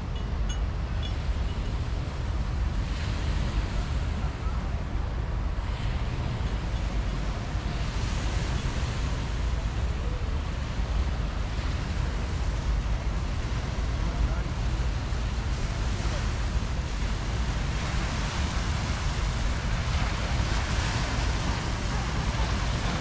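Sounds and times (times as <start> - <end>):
small waves washing on beach: 0.9 - 23.0.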